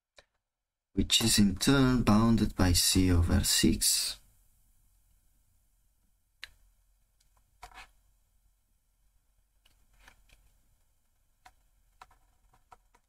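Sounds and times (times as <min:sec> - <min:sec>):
low steady hiss: 0:01.0 - 0:13.0.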